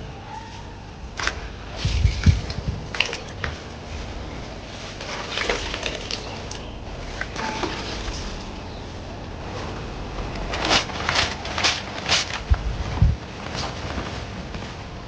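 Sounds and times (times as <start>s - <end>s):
objects being handled: 1.2s - 14.8s.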